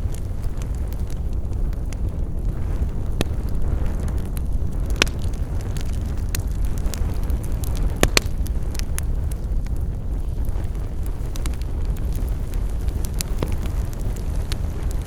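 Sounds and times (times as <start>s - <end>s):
burning wood crackles and pops: 0.0s - 15.0s
campfire low rumble: 0.0s - 15.0s.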